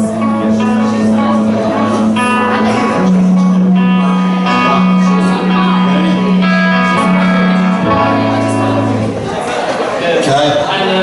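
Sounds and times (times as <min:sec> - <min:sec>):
held bass notes: 0:00.0 - 0:10.0
guitars playing: 0:00.0 - 0:10.3.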